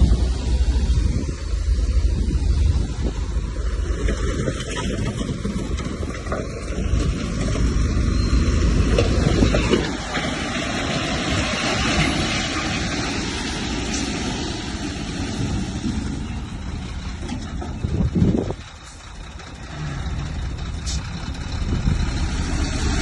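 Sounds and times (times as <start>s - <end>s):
diesel engine rumbling under load: 0.0s - 23.0s.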